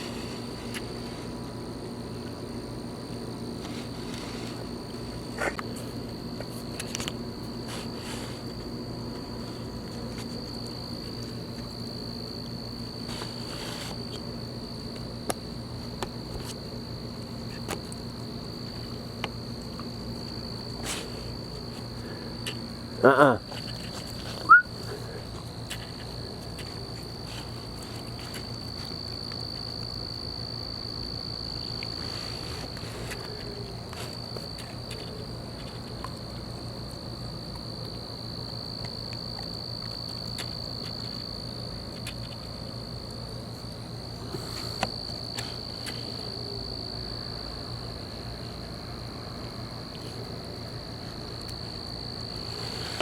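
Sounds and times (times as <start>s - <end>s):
insects trilling: 0.0s - 53.0s.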